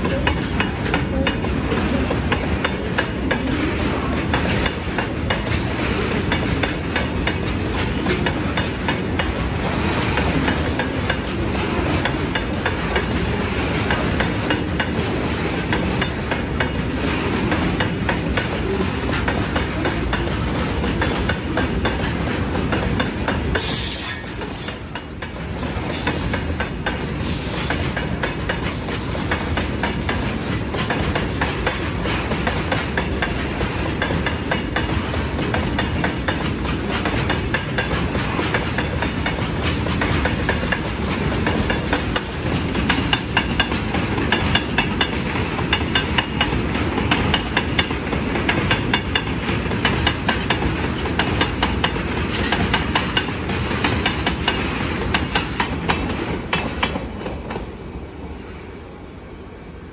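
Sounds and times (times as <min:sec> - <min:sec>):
train wheels clattering over rail joints: 0:00.0 - 0:57.7.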